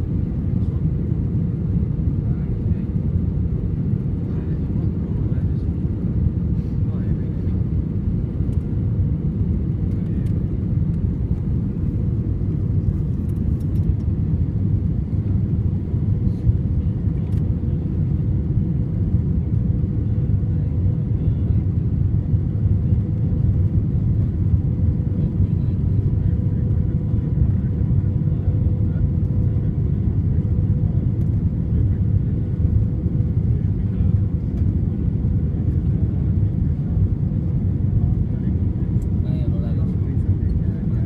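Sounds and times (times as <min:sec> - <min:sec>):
jet engine and airflow rumble: 0:00.0 - 0:41.0.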